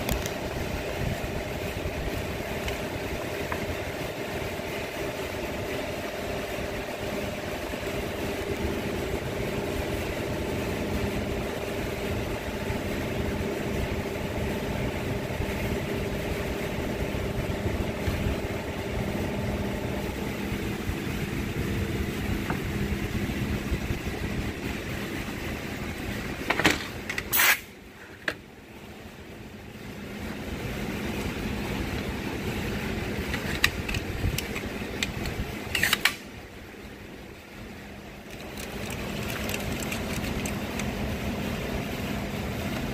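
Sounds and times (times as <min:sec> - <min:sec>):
fans droning: 0:00.0 - 0:42.9.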